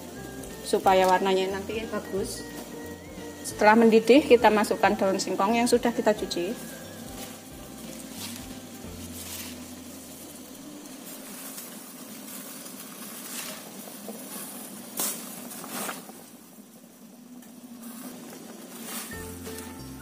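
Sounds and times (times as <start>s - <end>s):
water boiling in a pot: 0.0s - 20.0s.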